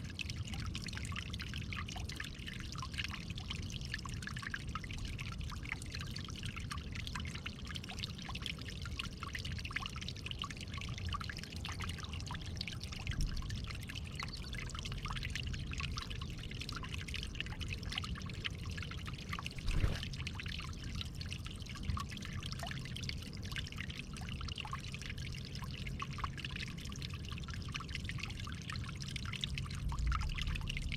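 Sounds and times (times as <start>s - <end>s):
water trickling and splashing: 0.0s - 30.9s.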